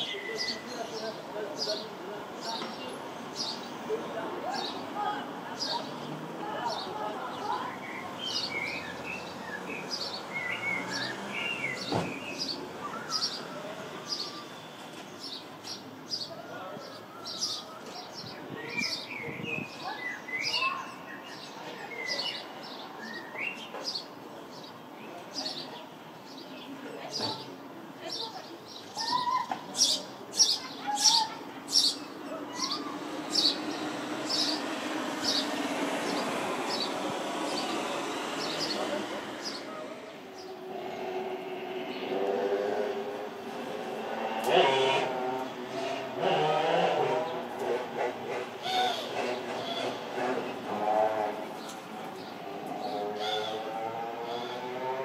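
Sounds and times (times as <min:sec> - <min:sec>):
sparrows chirping: 0:00.0 - 0:44.2, 0:48.6 - 0:55.0.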